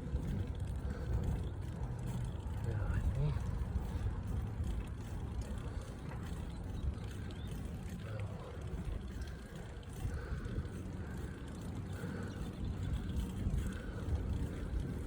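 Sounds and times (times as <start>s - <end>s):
bicycle riding rumble: 0.0s - 15.0s.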